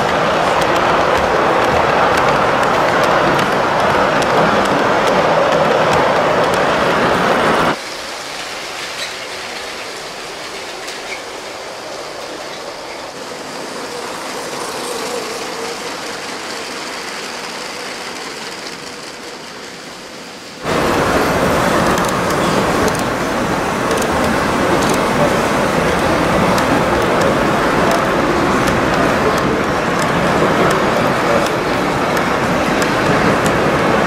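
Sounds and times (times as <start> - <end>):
toy trains on plastic track: 0.0 - 6.8, 7.7 - 34.0
model train rolling on track: 0.0 - 34.0.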